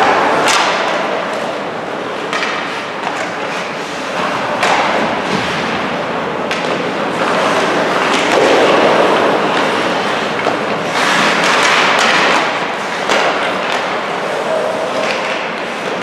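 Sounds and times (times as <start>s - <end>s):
hockey sticks hitting puck: 0.0s - 16.0s
skates on ice: 0.0s - 16.0s.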